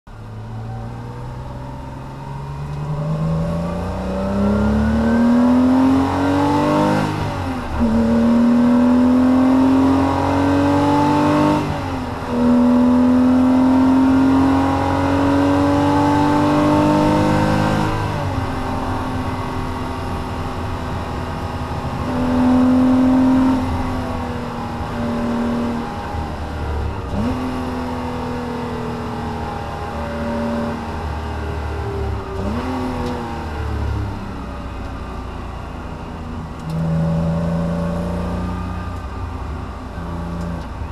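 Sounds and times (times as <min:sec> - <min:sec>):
car engine accelerating hard: 0:00.1 - 0:40.9.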